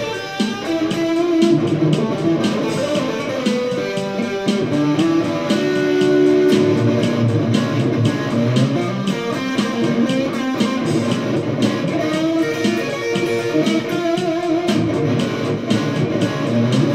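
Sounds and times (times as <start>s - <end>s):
electric guitar through amplifier: 0.0s - 16.9s
steady beat: 0.0s - 16.9s.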